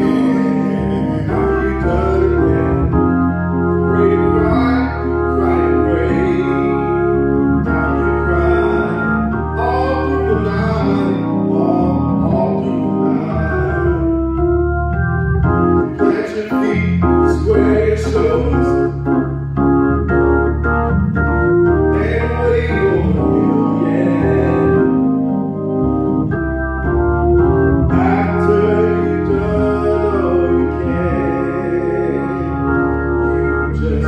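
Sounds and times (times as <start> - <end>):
organ playing held chords: 0.0 - 34.0.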